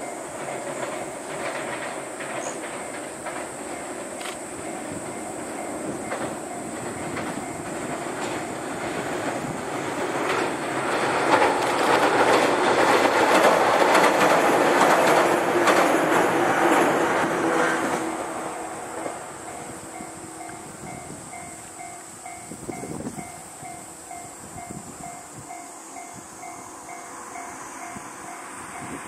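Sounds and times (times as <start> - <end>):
train wheels clattering: 0.0 - 29.0.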